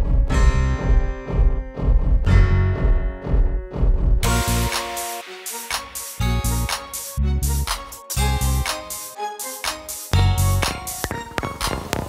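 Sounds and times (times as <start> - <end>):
background music with bass hits: 0.0 - 12.0.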